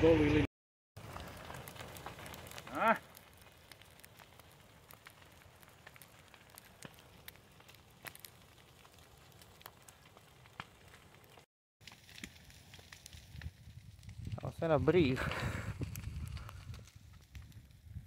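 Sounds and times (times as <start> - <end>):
brush fire crackling and popping: 1.0 - 18.0.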